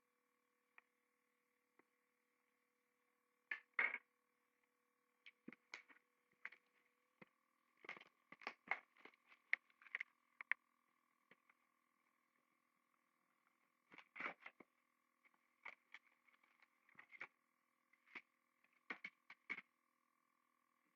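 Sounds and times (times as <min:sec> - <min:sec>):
faint electrical hum: 0:00.0 - 0:20.9.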